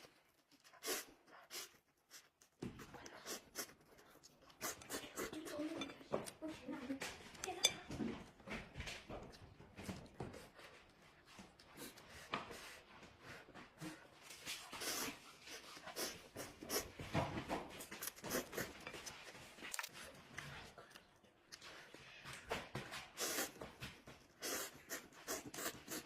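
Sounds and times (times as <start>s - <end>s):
slurping and chewing noodles: 0.0s - 6.4s, 9.8s - 17.0s, 17.7s - 22.2s, 23.0s - 26.0s.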